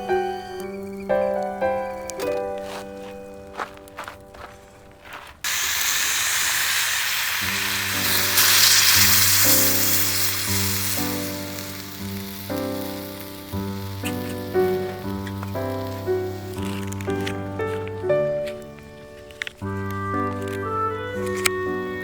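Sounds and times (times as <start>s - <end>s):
slow plucked background music: 0.0s - 4.5s, 7.6s - 22.0s
steady sizzling hiss: 0.0s - 22.0s.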